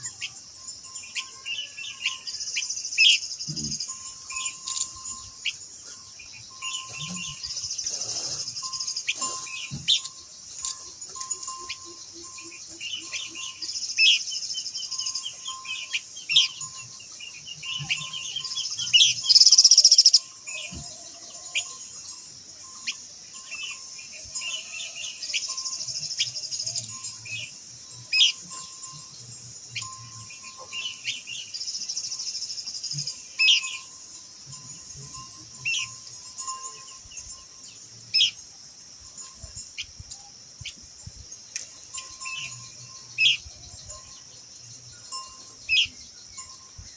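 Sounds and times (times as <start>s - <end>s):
bird chirping and trilling: 0.0s - 38.4s, 41.5s - 44.4s, 45.0s - 46.9s
steady high-pitched hiss: 0.0s - 46.9s.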